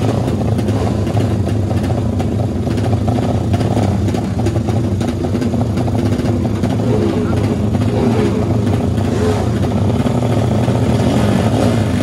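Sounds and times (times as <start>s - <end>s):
motorcycle engine idling loudly: 0.0s - 12.0s.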